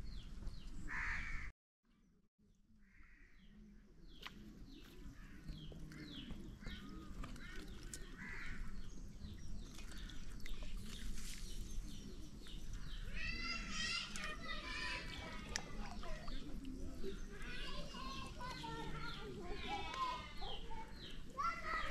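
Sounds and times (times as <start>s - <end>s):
birds calling: 0.0s - 1.5s, 2.8s - 21.9s.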